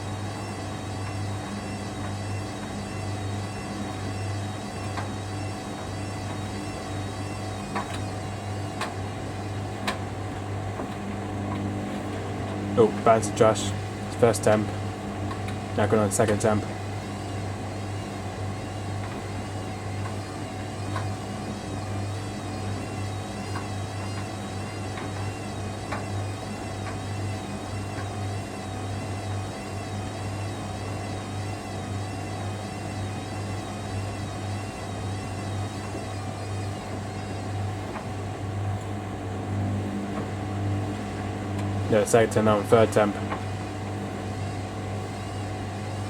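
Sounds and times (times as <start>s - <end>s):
high motor whine: 0.0s - 46.0s
washing machine drum spinning: 0.0s - 46.0s.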